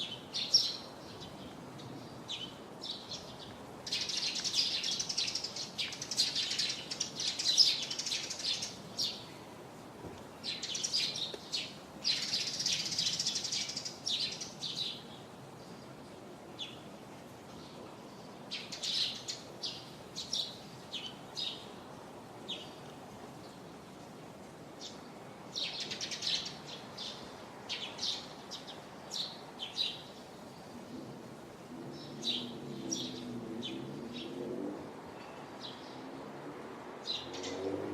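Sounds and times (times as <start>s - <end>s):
small birds chirping: 0.0s - 9.4s, 10.2s - 24.2s, 24.8s - 36.2s
faint background hiss: 0.0s - 37.9s.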